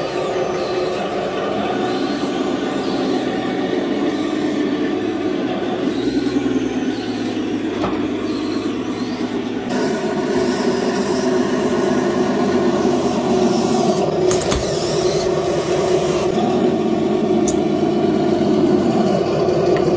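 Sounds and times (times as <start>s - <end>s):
model vehicle electric motors whining: 0.0s - 19.9s.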